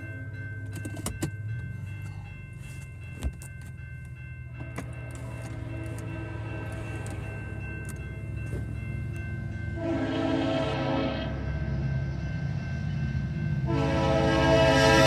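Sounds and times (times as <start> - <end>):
railroad crossing bell ringing: 0.0 - 15.0.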